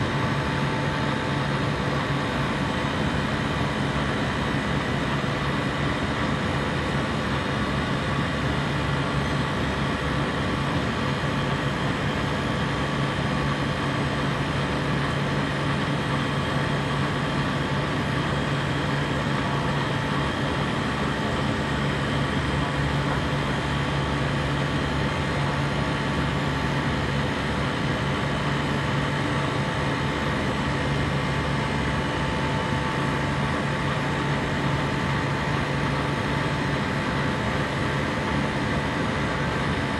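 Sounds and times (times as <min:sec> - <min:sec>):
compressor humming: 0:00.0 - 0:39.9.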